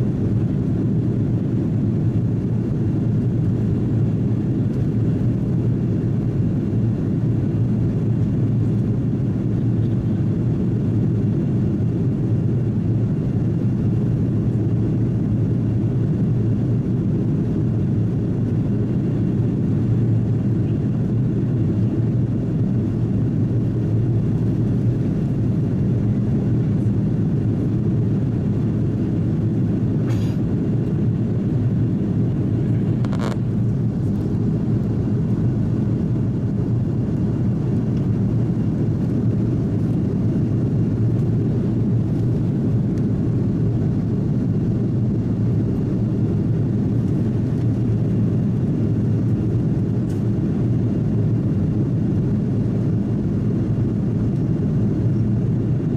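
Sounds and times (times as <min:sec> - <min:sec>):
airplane cabin engine drone: 0:00.0 - 0:55.9.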